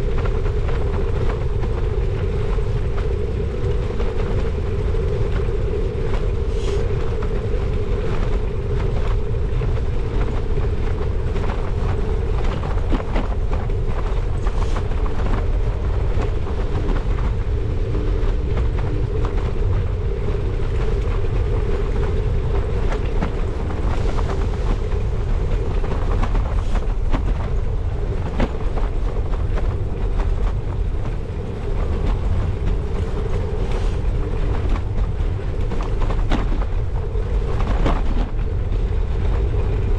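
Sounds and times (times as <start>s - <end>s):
bicycle tyre rumble on tarmac: 0.0s - 39.9s
wind buffeting microphone: 0.0s - 39.9s.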